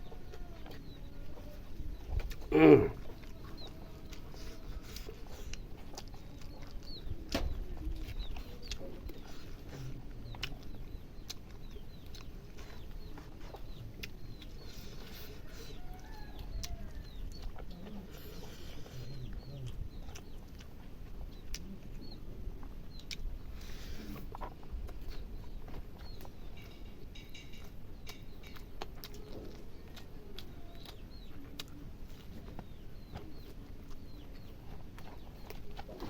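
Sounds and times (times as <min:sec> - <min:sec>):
person chewing: 0:00.1 - 0:36.0.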